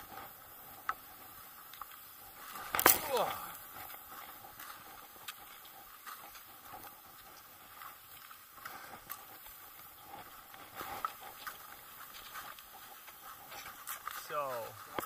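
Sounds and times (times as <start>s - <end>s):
skis swishing through snow: 0.0s - 15.0s.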